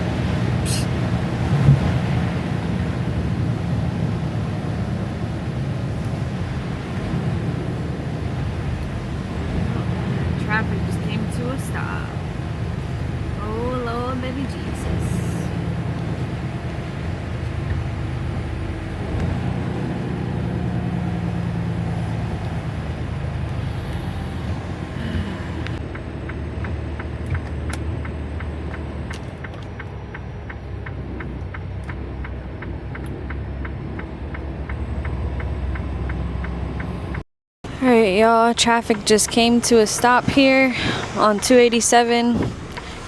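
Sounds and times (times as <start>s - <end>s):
diesel engine rumbling: 0.0s - 43.0s
turn signal relay ticking: 6.0s - 37.2s, 38.0s - 43.0s.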